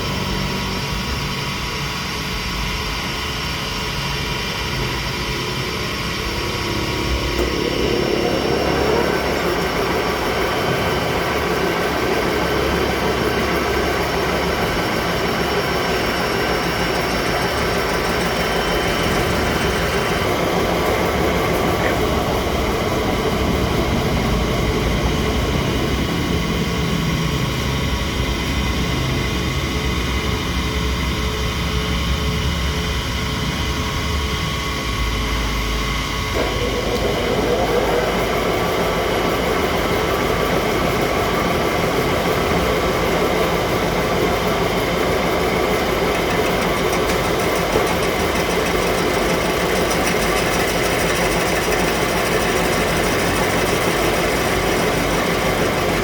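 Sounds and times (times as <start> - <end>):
loud machinery running: 0.0 - 56.0.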